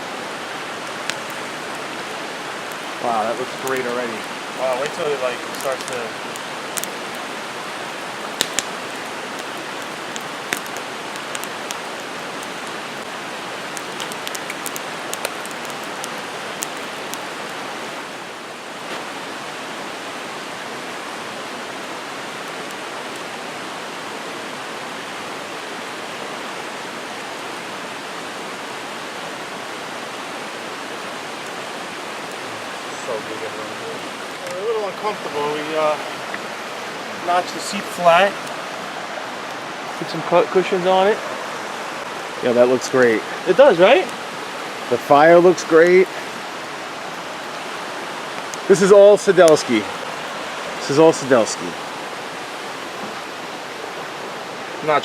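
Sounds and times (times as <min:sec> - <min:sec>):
campfire crackling and popping: 0:00.0 - 0:55.0
steady rushing hiss: 0:00.0 - 0:55.0.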